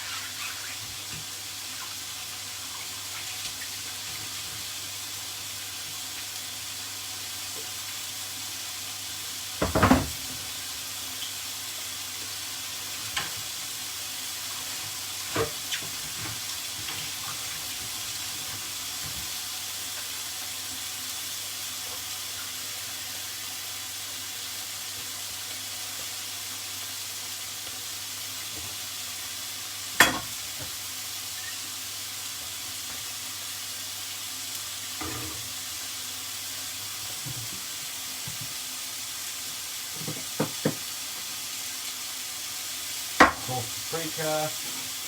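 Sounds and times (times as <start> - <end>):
chicken sizzling in a frying pan: 0.0 - 45.0.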